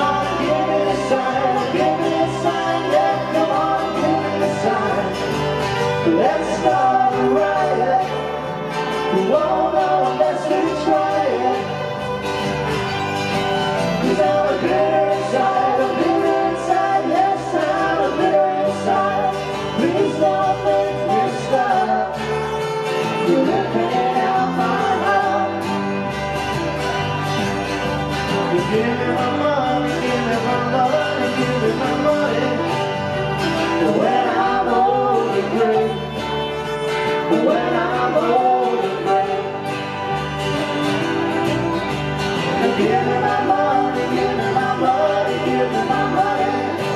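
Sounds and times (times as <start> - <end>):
person singing: 0.0 - 12.0, 13.8 - 25.9, 28.4 - 41.4, 42.3 - 46.9
acoustic guitar: 0.0 - 46.9
bass guitar: 0.0 - 46.9
electric guitar: 0.0 - 46.9.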